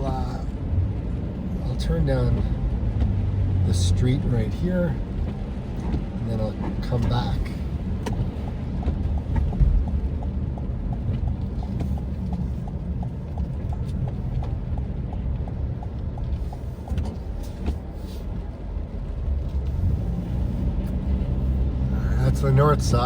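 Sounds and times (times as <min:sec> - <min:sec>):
car engine rumble: 0:00.0 - 0:23.0
turn signal ticking: 0:00.0 - 0:23.0.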